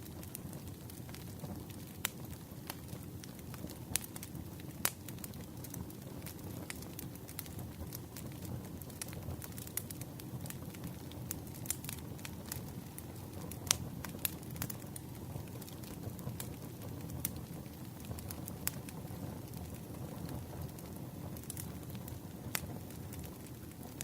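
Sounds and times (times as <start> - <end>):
campfire flames rumbling: 0.0 - 24.0
wood popping and crackling: 0.2 - 24.0.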